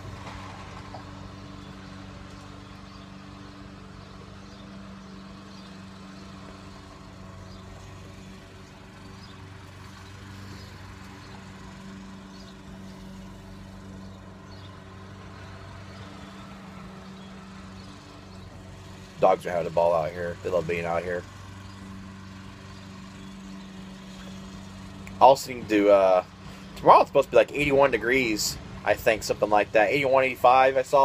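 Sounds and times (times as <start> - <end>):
low mechanical drone: 0.0 - 31.0.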